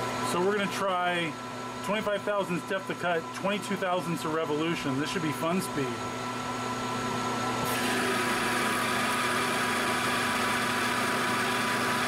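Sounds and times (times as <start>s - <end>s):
lathe humming and whining: 0.0s - 12.0s.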